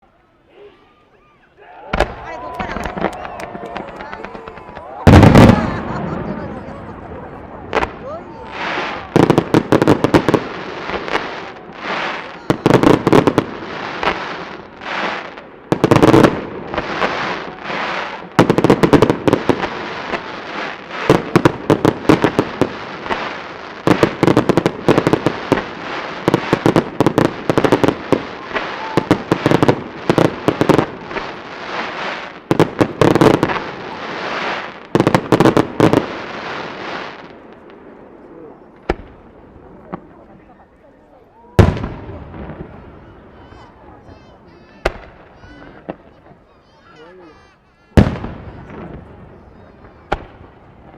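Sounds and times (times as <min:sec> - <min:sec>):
sharp crackling of fireworks: 0:01.8 - 0:50.9.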